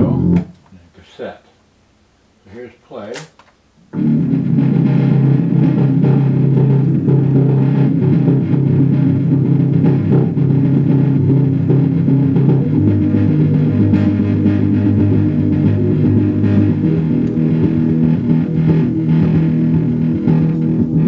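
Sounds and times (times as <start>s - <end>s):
bass-heavy music from boombox: 0.0s - 0.6s, 4.0s - 21.0s.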